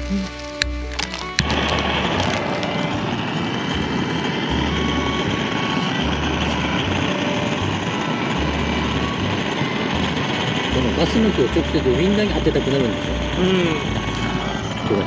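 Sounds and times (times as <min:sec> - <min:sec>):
gas torch flame rushing: 0:00.5 - 0:15.0.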